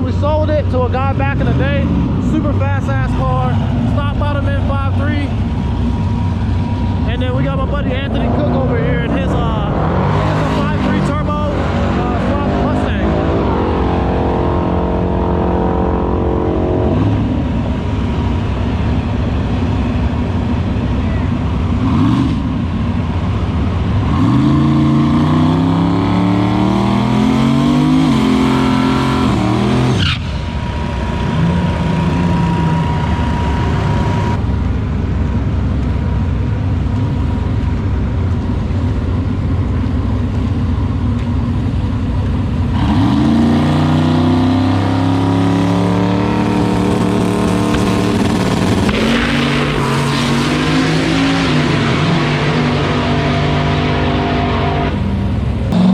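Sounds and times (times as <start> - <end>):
drag car accelerating: 0.0 - 34.7, 36.6 - 55.9.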